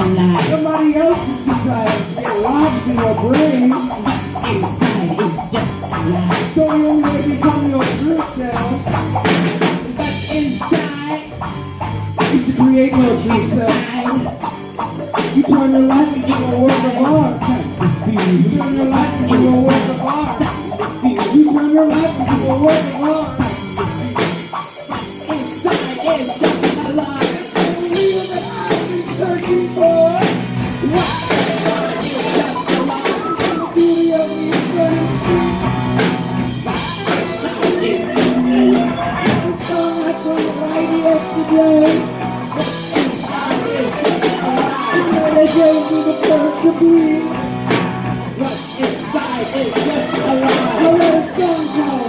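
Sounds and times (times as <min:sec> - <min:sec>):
drum kit beat: 0:00.0 - 0:52.0
live rock band music: 0:00.0 - 0:52.0.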